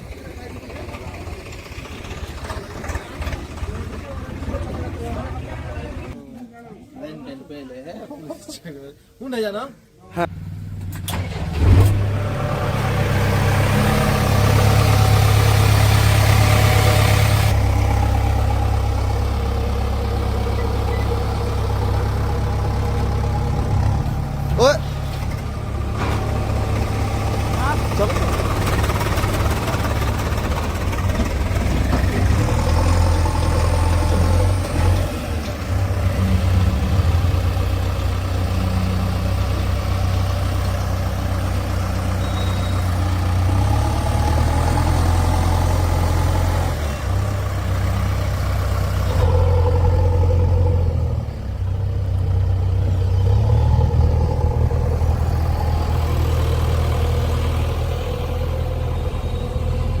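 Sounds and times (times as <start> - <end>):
heavy diesel engine droning: 0.0 - 6.2, 10.3 - 60.0.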